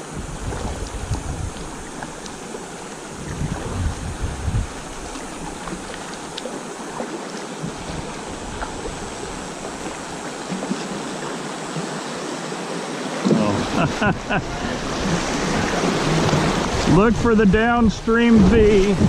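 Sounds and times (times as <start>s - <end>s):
river water rushing over rocks: 0.0s - 17.4s.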